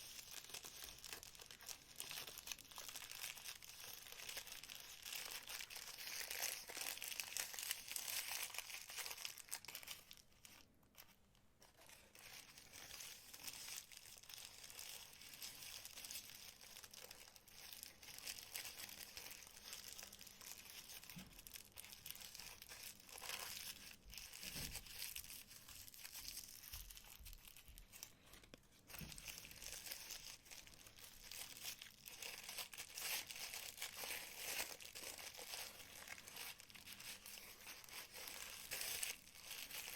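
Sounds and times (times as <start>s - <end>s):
packaging crinkling: 0.0s - 39.9s.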